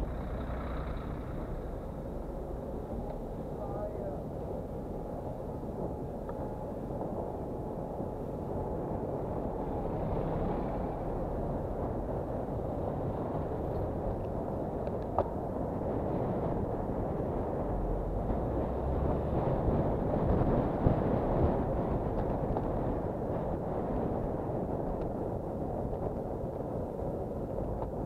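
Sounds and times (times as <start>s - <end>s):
road traffic noise: 0.0s - 28.0s
wind on microphone: 0.0s - 28.0s.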